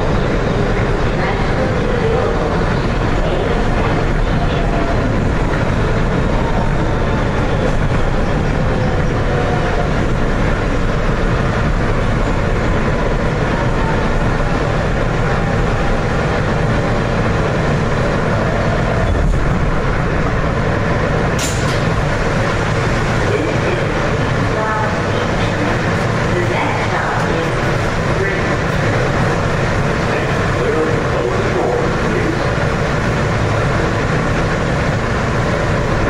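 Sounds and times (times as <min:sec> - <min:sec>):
subway wheels rumbling on rail: 0:00.0 - 0:36.0.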